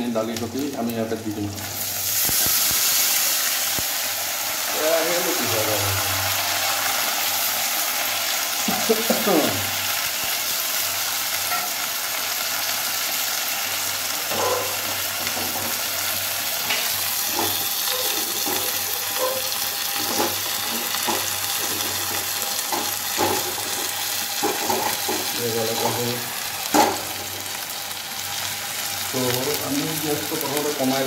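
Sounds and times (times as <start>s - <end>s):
food sizzling in oil: 0.0s - 31.0s.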